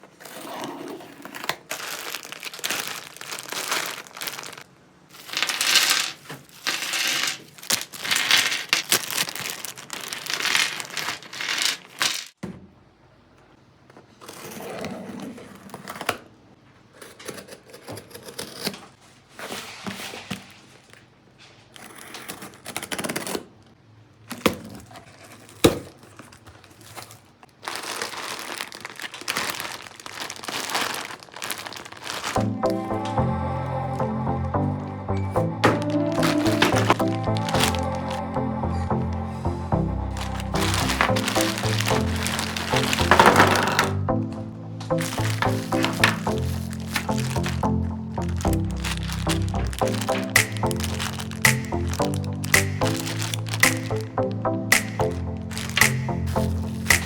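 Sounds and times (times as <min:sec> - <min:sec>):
rustling and crinkling: 0:00.0 - 0:12.4, 0:17.1 - 0:33.1, 0:35.6 - 0:38.2, 0:39.0 - 0:57.0.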